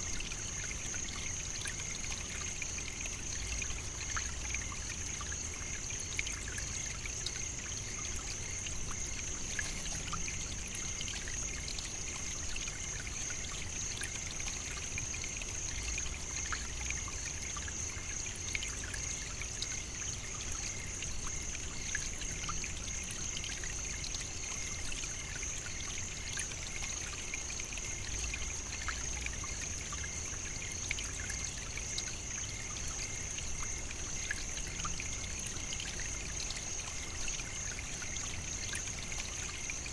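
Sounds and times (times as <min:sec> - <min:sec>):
trickling water-like hiss: 0:00.0 - 0:39.9.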